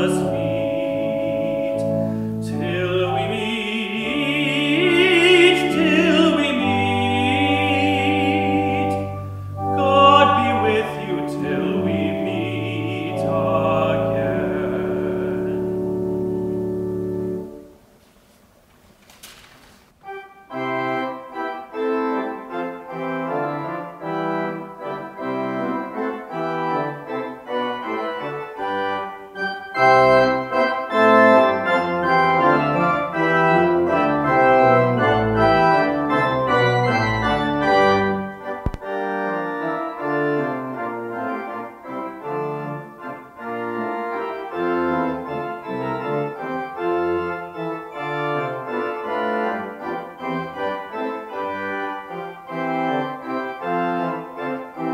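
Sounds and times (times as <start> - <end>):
deep organ pedal bass notes: 0.0 - 17.9, 20.1 - 54.9
pipe organ chords: 0.0 - 18.0, 20.0 - 54.9.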